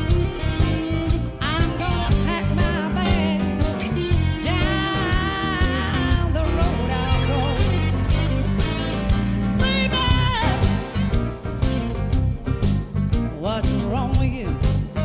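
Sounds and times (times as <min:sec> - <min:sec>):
song with guitar and singing: 0:00.0 - 0:15.0.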